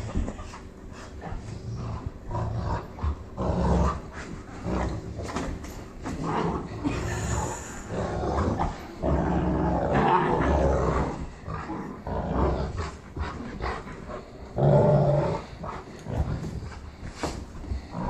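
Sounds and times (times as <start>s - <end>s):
dogs growling: 0.0s - 18.0s.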